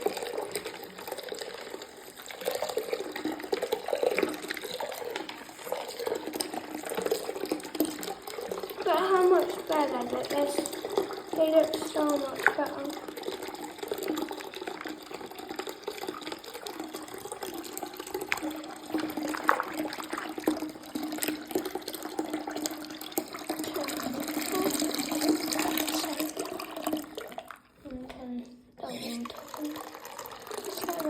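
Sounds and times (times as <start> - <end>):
water splashing and trickling: 0.0 - 31.0.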